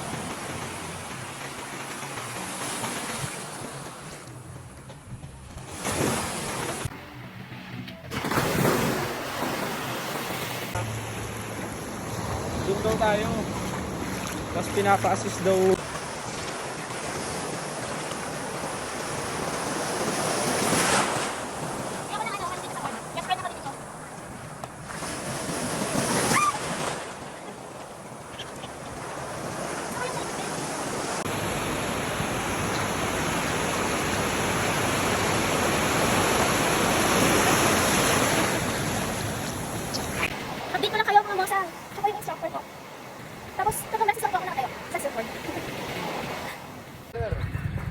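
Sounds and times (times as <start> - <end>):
ocean surf rushing: 0.0 - 4.7, 5.6 - 47.9
wave breaking: 5.5 - 28.0, 28.8 - 47.9.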